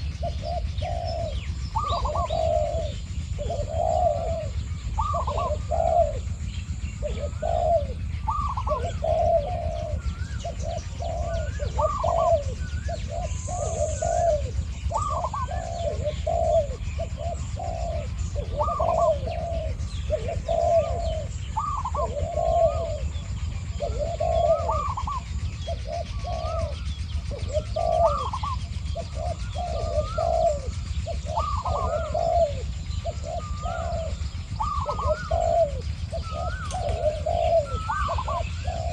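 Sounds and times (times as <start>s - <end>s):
doves cooing: 0.0s - 38.9s
small bird chirps: 0.0s - 38.9s
steady low rumble: 0.0s - 38.9s.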